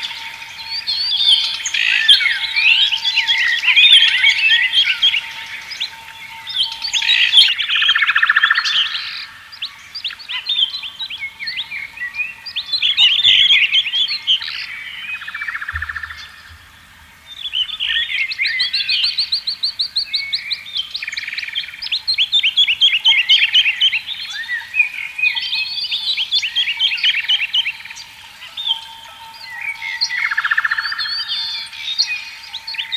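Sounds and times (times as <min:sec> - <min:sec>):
songbirds singing: 0:00.0 - 0:32.9.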